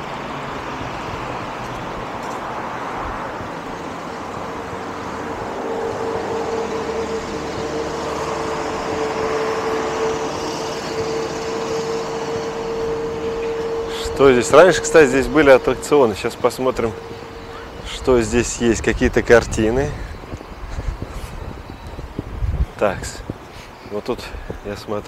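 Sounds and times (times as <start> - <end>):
steady humming tone: 0.0 - 23.9
city traffic noise: 0.0 - 25.0.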